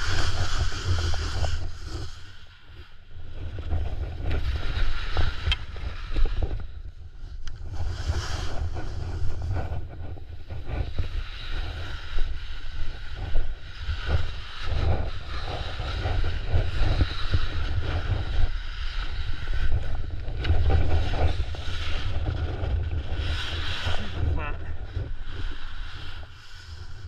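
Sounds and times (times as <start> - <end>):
skis scraping over snow: 0.0 - 27.0
wind buffeting microphone: 0.0 - 27.0.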